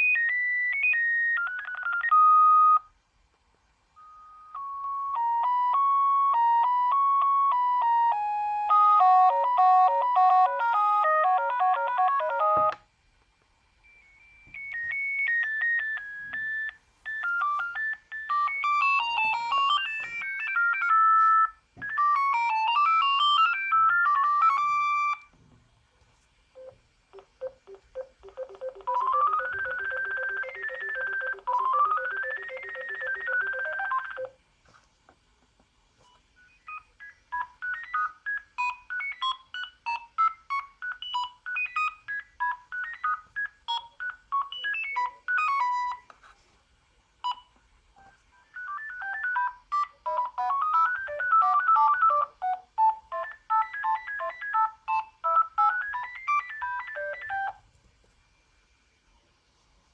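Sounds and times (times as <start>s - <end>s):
mobile phone ringtone melodies: 0.0s - 2.8s, 4.0s - 12.8s, 13.9s - 25.2s, 26.6s - 34.3s, 36.5s - 46.1s, 48.5s - 57.6s.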